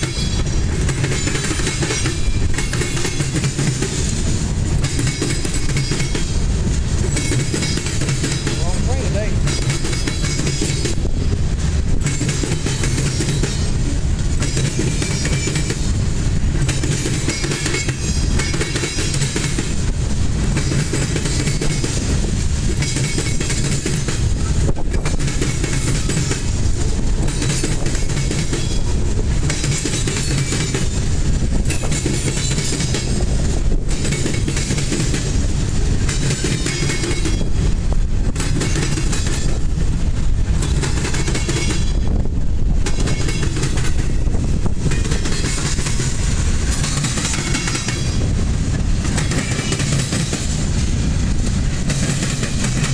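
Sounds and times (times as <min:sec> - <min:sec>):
train wheels clattering over rail joints: 0:00.0 - 0:52.9.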